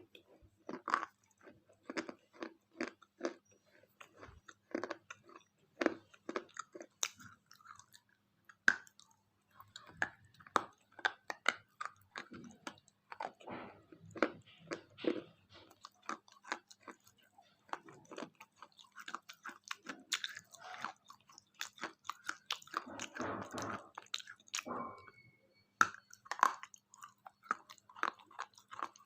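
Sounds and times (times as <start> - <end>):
crunching and chewing wafer bar: 0.0 - 25.2, 25.8 - 29.0.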